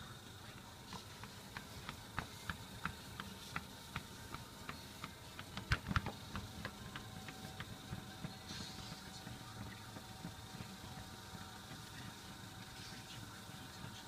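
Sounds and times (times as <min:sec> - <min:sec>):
treadmill belt ticking: 0:00.0 - 0:14.0
treadmill motor hum: 0:00.0 - 0:14.0.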